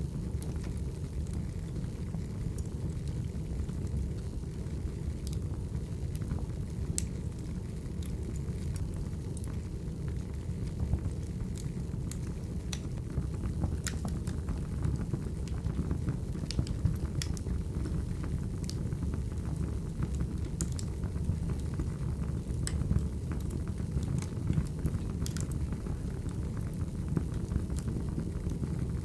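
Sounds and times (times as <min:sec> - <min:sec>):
wood fire crackling: 0:00.0 - 0:29.0
fire pops and snaps: 0:00.3 - 0:29.0.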